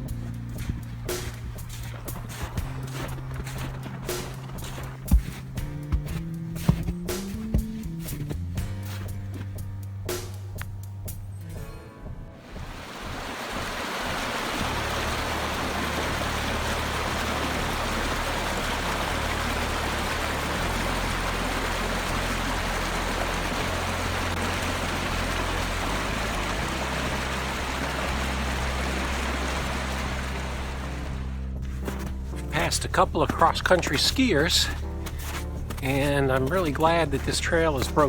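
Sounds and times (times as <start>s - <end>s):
music of sustained low notes: 0.0s - 38.0s.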